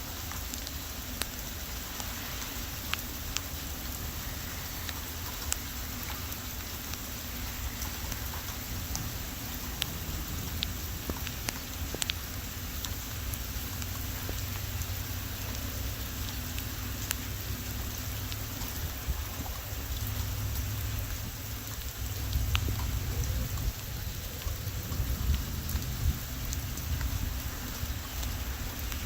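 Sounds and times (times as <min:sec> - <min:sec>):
heavy rain falling: 0:00.0 - 0:29.0
sharp raindrops striking close: 0:00.0 - 0:29.0
wind rumbling on microphone: 0:00.0 - 0:29.0.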